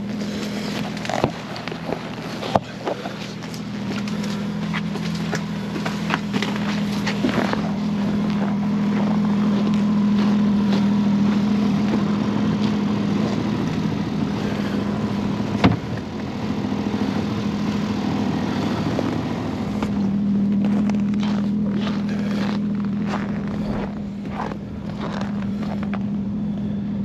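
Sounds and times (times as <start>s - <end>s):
snowmobile engine idling: 0.0s - 27.0s.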